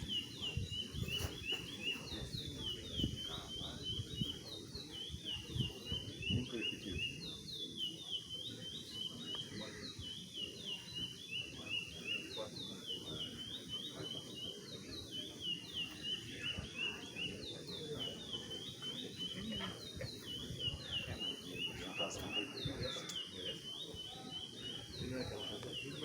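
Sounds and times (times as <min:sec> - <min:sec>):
low background murmur: 0:00.0 - 0:26.0
songbird singing rapid high notes: 0:00.0 - 0:26.0.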